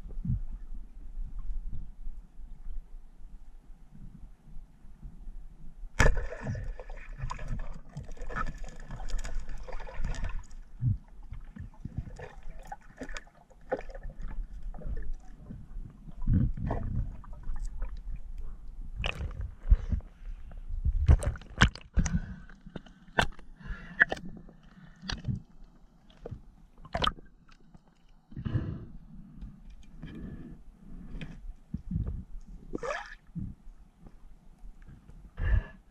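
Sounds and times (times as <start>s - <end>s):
water sloshing and gurgling: 5.9s - 35.6s.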